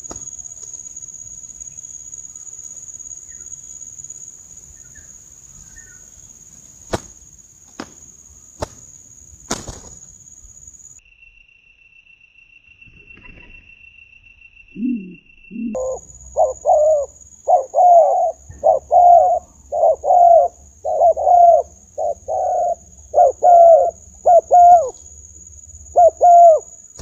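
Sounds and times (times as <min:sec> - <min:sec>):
high-pitched insect trill: 0:00.0 - 0:27.0
low steady insect tone: 0:00.0 - 0:27.0.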